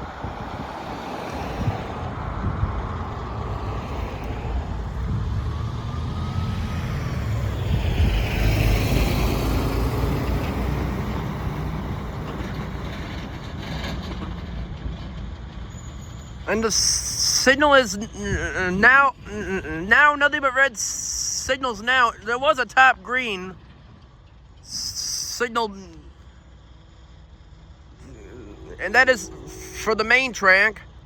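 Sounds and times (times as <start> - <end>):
passenger train passing: 0.0 - 24.0, 27.4 - 31.0.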